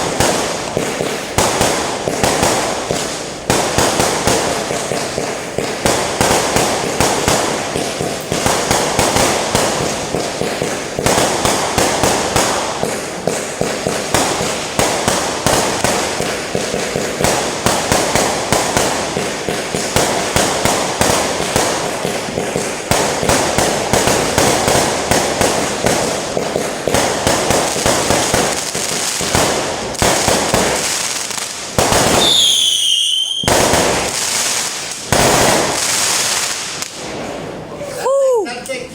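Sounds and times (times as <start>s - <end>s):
firecrackers cracking: 0.0s - 38.9s.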